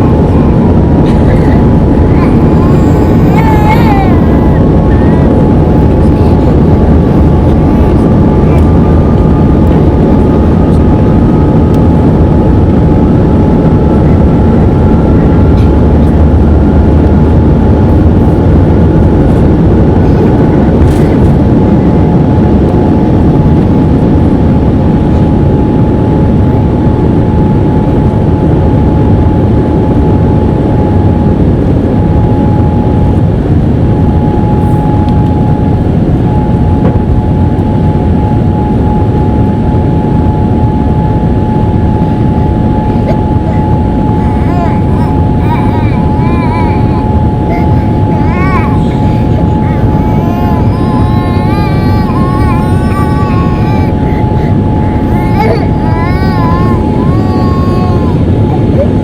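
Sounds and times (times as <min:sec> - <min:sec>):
jet engines rumbling: 0:00.0 - 0:59.0
rising jet engine whine: 0:00.0 - 0:59.0.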